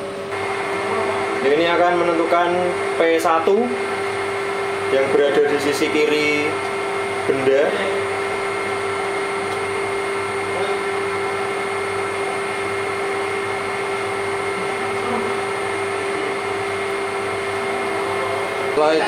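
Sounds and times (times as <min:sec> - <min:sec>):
milling machine humming: 0:00.0 - 0:19.0.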